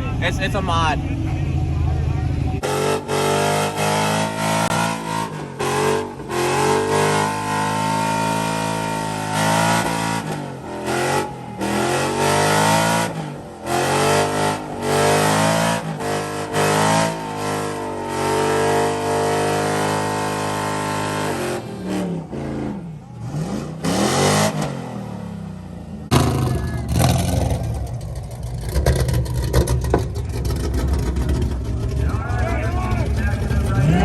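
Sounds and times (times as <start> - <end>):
truck engine revving hard: 0.0 - 34.0.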